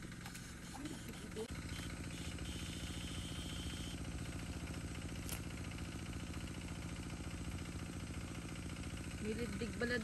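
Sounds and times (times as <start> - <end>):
small engine puttering: 0.0 - 10.0.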